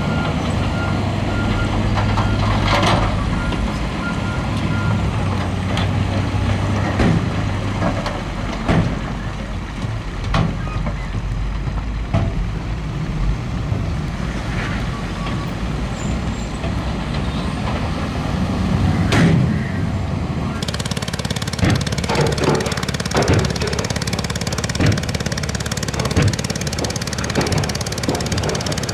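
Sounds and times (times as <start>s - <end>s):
heavy diesel machinery running: 0.0s - 28.9s.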